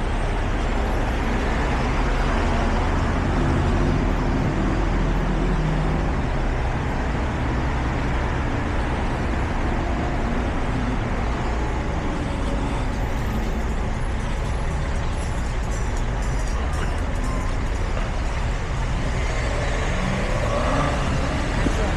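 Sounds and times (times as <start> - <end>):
road traffic noise: 0.0 - 21.9
vehicle engine humming: 0.0 - 21.9.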